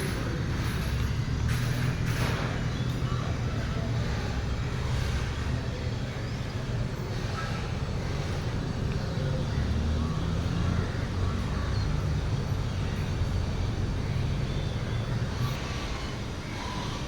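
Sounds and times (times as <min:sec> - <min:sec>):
washing machine rumble and hum: 0:00.0 - 0:17.0.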